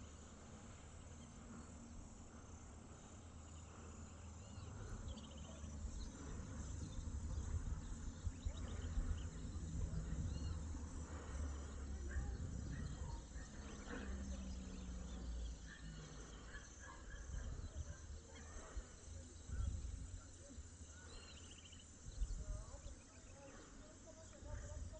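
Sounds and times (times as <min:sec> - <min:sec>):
steady low rumble: 0:00.0 - 0:23.1
insects chirping: 0:00.0 - 0:24.9.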